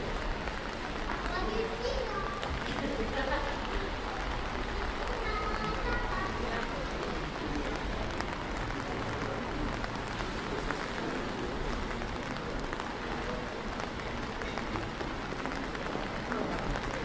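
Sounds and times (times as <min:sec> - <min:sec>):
rain falling on wet pavement: 0:00.0 - 0:17.0.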